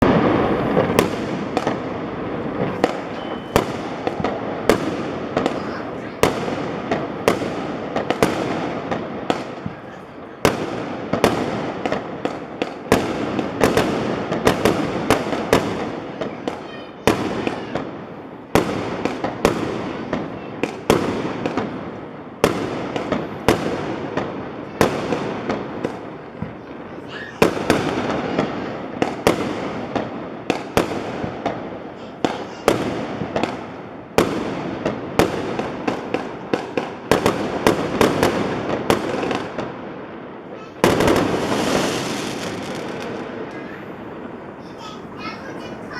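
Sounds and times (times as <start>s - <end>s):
fireworks bangs: 0.0s - 45.9s
fireworks crackling: 0.0s - 45.9s.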